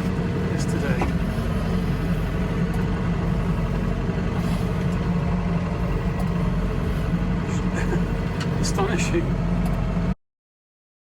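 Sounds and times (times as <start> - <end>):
diesel tractor engine running: 0.0 - 10.2.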